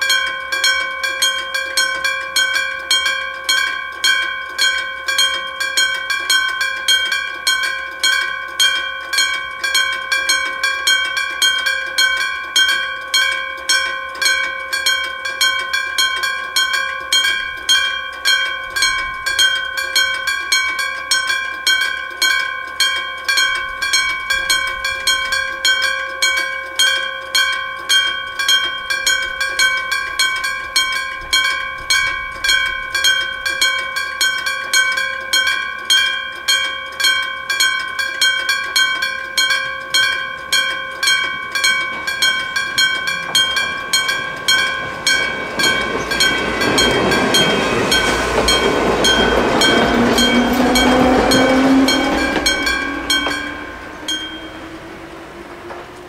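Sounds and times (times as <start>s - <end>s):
level crossing bell ringing: 0.0s - 55.5s
electric train passing: 0.0s - 56.0s.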